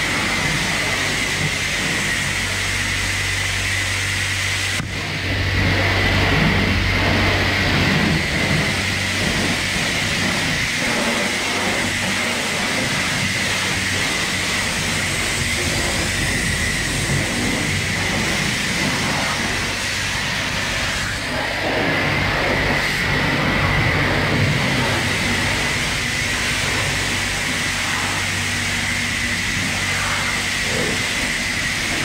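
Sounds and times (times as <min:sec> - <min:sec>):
low hum: 0:00.0 - 0:32.0
pressure washer water jet hissing: 0:00.0 - 0:32.0.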